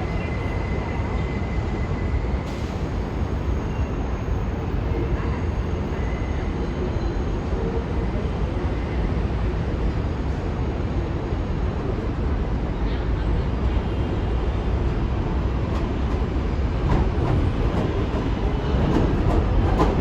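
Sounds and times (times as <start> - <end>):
subway train running: 0.0 - 20.0.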